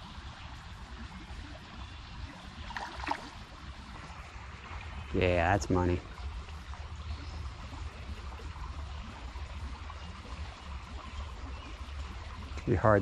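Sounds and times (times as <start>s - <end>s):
creek trickling: 0.0s - 13.0s.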